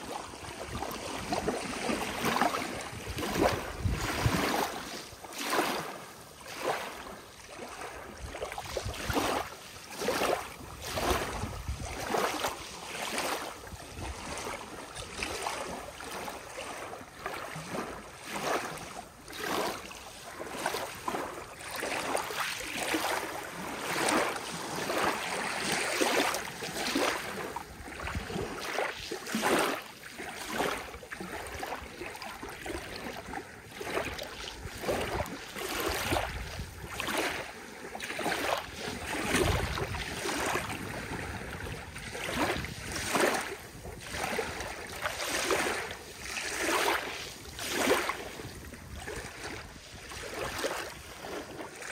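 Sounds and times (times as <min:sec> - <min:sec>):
small waves washing onto beach: 0:00.0 - 0:51.9.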